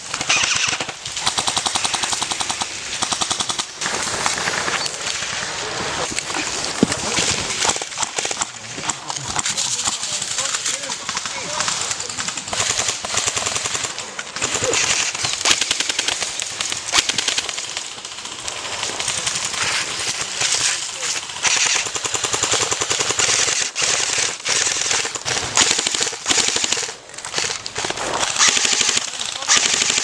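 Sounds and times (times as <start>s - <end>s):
airsoft guns firing bursts: 0.0s - 30.0s.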